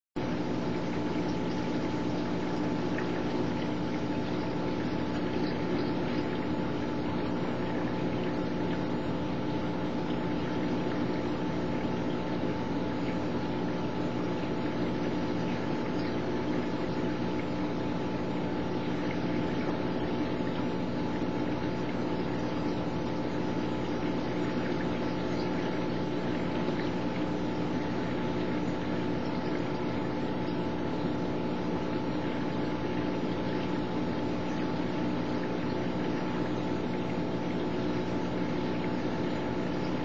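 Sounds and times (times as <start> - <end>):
aquarium pump hum: 0.2 - 40.0.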